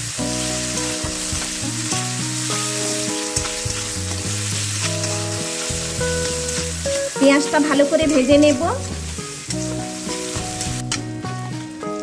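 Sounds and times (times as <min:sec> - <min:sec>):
onion and spices sizzling in oil: 0:00.0 - 0:12.0
soft background music: 0:00.0 - 0:12.0.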